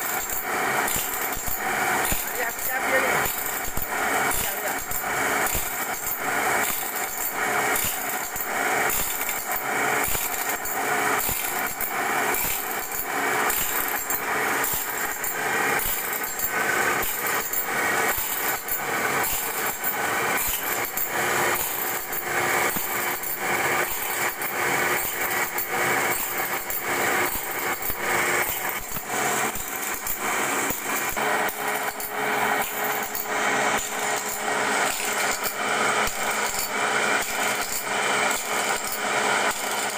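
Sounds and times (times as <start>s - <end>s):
grinding wheel on saw blade: 0.4s - 39.9s.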